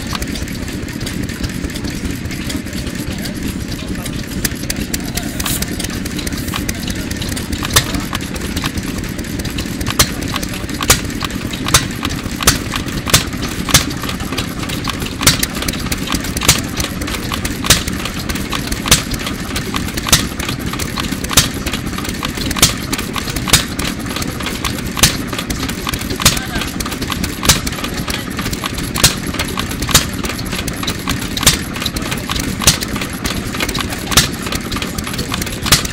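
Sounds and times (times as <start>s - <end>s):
engine exhaust bangs: 0.0s - 35.9s.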